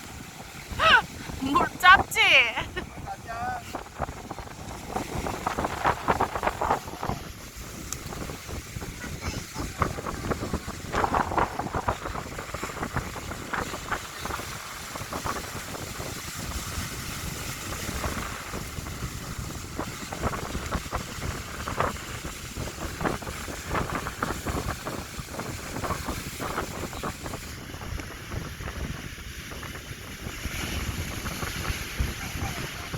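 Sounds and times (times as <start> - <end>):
sea surf rushing: 0.0 - 32.9
wind buffeting microphone: 0.0 - 32.9.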